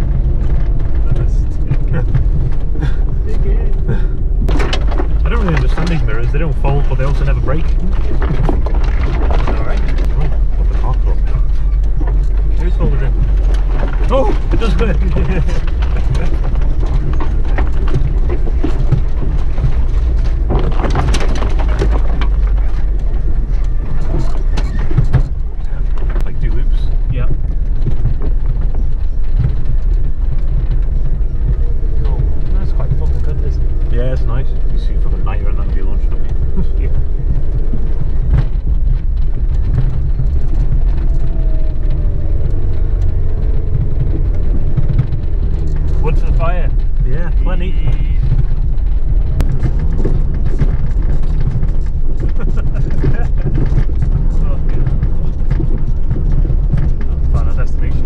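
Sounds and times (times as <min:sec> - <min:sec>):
knocks and clatters over stones: 0:00.0 - 0:58.0
vehicle rumbling over rough track: 0:00.0 - 0:58.0.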